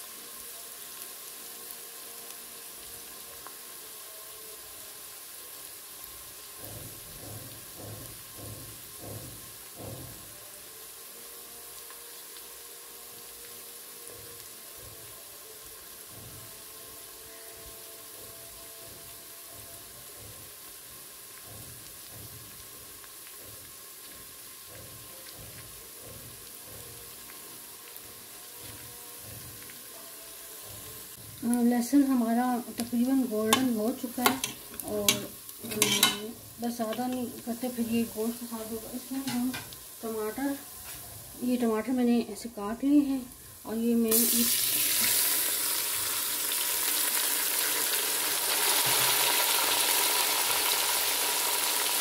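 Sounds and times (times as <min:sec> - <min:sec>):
garlic sizzling in oil: 0:00.0 - 0:52.0.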